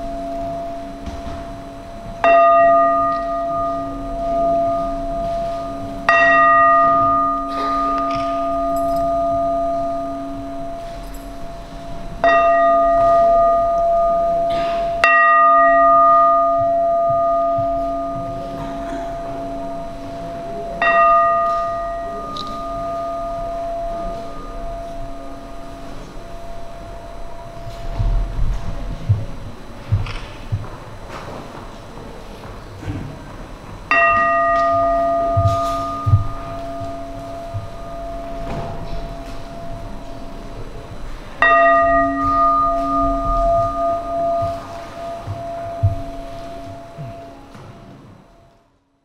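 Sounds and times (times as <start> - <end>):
metal bell ringing: 0.0 - 30.6, 33.9 - 47.7.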